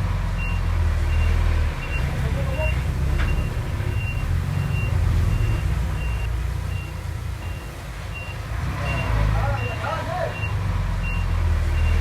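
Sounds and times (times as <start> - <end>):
diesel engine running: 0.0 - 12.0
backup alarm beeping: 0.4 - 12.0.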